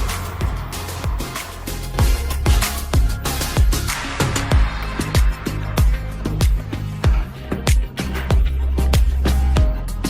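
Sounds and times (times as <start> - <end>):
upbeat electronic pop music: 0.0 - 10.0.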